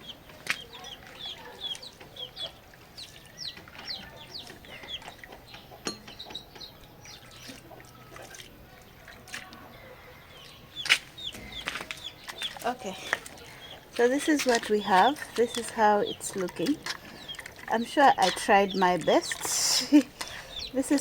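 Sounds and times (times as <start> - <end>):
chickens chirping: 0.0 - 21.0.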